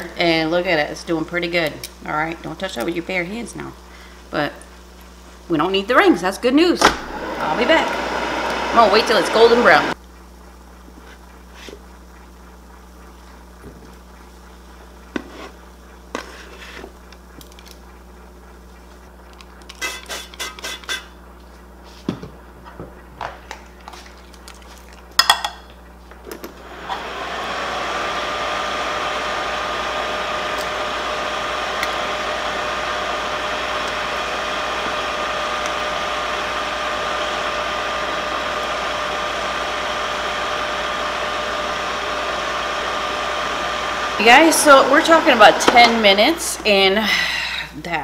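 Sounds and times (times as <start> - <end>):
air fryer fan whirring: 0.0 - 23.6, 26.3 - 48.0.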